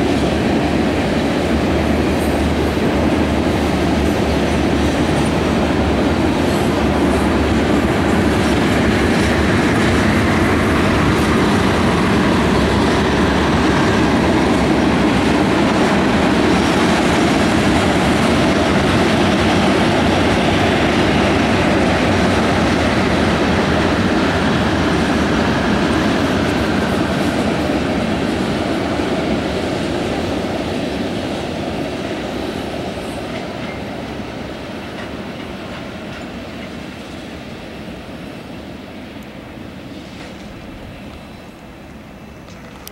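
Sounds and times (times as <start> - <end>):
freight train wheels rattling: 0.0 - 42.9.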